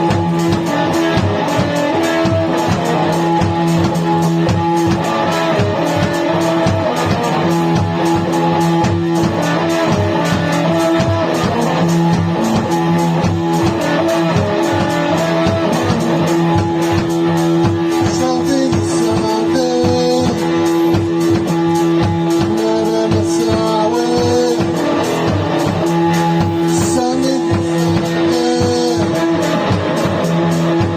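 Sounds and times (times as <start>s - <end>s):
electric guitar lines: 0.0s - 30.9s.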